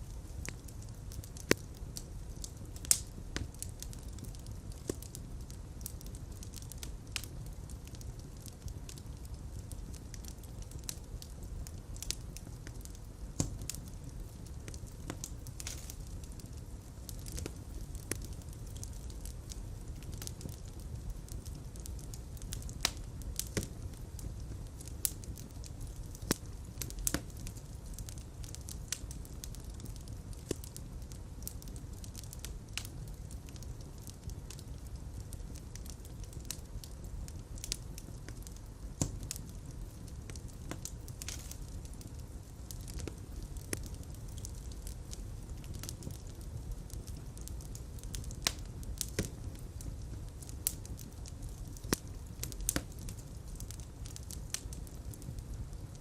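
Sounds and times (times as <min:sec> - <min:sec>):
fire pops: 0:00.0 - 0:56.0
fireplace fire crackling: 0:00.0 - 0:56.0.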